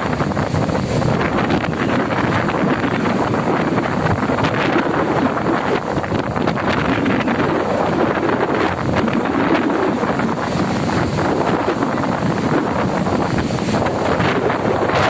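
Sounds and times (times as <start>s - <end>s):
storm wind on microphone: 0.0s - 15.0s.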